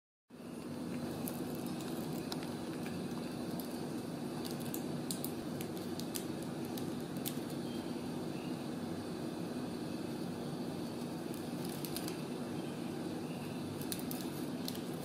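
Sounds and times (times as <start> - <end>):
steady low hum: 0.3 - 15.0.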